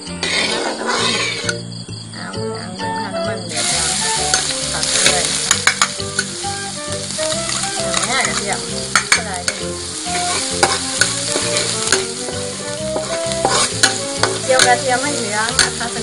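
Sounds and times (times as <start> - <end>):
garlic sizzling in oil: 0.0 - 1.7, 3.4 - 16.0
spatula scraping wok: 0.0 - 1.7, 3.5 - 16.0.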